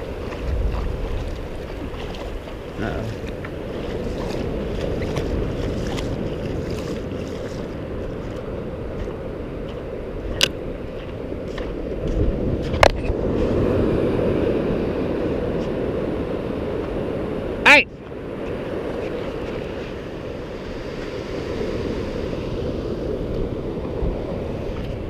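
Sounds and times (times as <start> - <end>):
ocean surf washing: 0.0 - 25.0
wind on microphone: 0.0 - 25.0.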